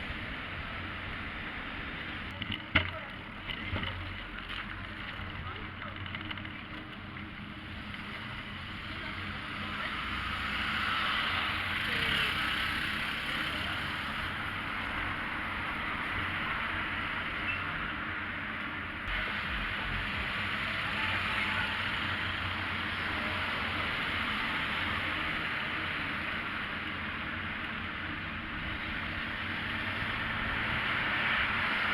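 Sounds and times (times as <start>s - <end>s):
street traffic noise: 0.0s - 31.9s.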